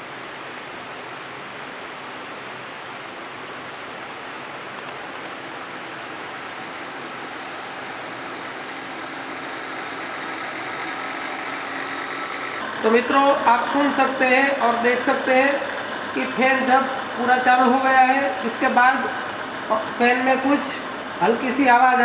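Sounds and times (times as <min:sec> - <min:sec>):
ceiling fan air rush: 0:00.0 - 0:22.0.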